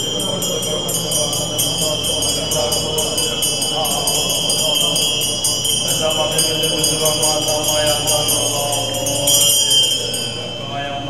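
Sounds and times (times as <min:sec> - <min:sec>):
monks chanting in low voices: 0:00.0 - 0:11.0
shaken ritual bells ringing: 0:00.0 - 0:11.0.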